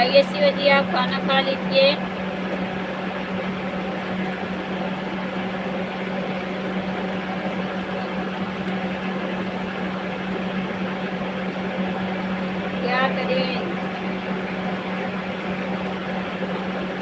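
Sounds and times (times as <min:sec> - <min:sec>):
low machine drone: 0:00.0 - 0:17.0.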